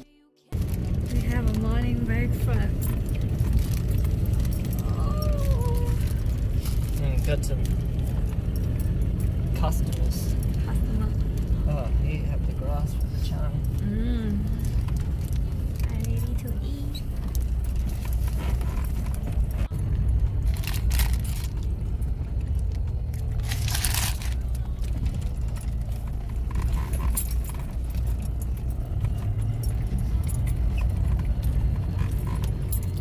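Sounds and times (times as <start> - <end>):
car cabin road rumble: 0.5 - 33.0.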